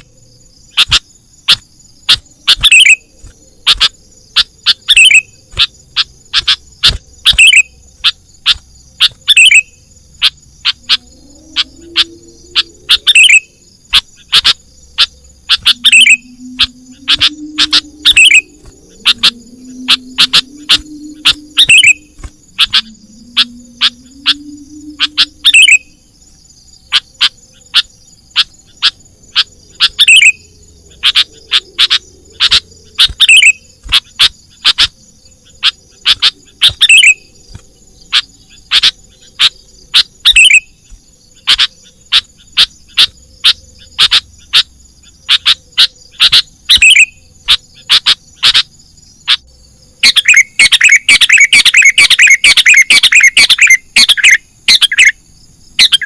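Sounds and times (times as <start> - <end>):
high insect trill: 0.0 - 56.0
bulbul calling: 0.7 - 26.1, 26.9 - 55.2, 55.8 - 56.0.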